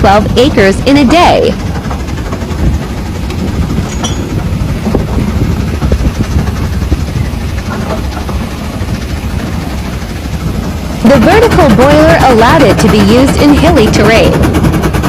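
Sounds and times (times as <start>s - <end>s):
steam engine low rumble: 0.0s - 15.0s.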